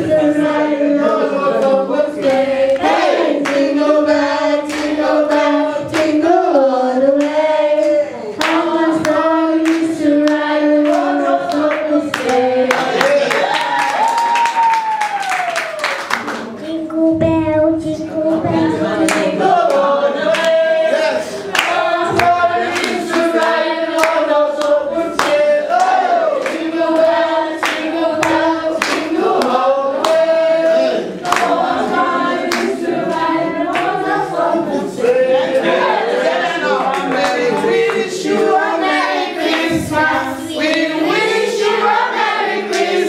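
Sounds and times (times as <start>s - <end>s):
children's choir singing: 0.0s - 13.8s, 16.4s - 43.0s.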